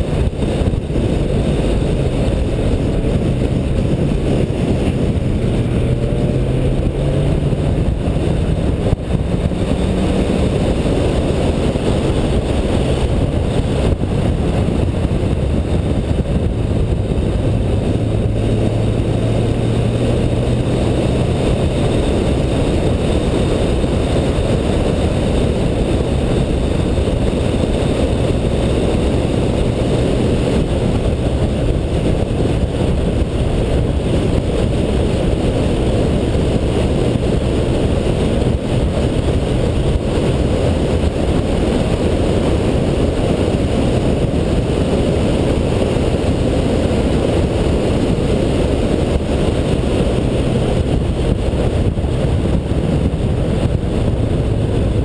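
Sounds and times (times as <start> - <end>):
car engine under load: 0.0 - 55.0
road and wind noise: 0.0 - 55.0.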